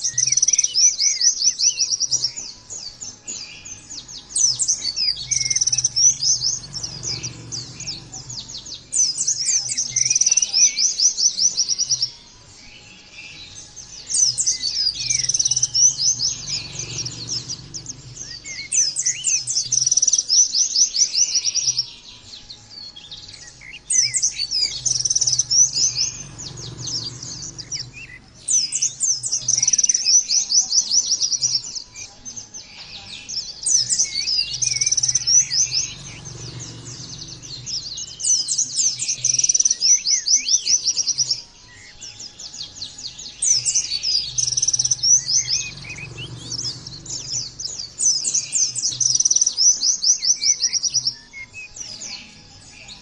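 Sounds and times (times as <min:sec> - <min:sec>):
bird twittering: 0:00.0 - 0:53.0.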